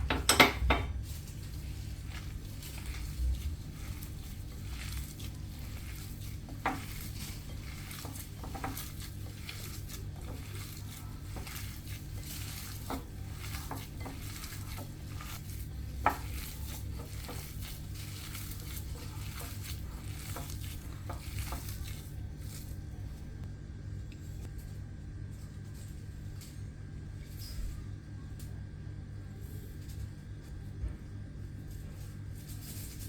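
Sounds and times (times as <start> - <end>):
utensil scraping in a pot: 0.0 - 33.0.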